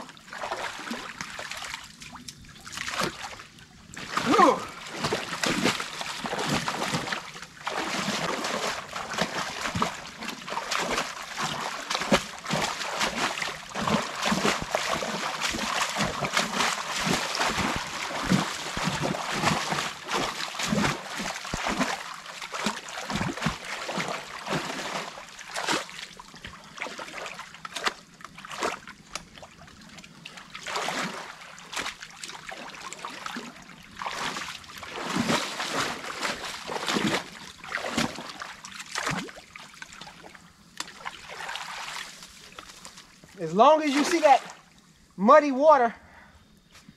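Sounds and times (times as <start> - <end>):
water trickling: 0.0 - 45.8
water splashing and sloshing: 0.0 - 45.9.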